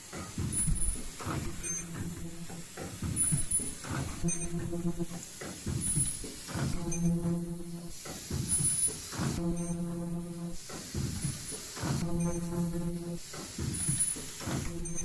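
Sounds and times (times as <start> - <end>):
light machine clatter: 0.0 - 15.0
ultrasonic welder hum and whine: 0.0 - 15.0.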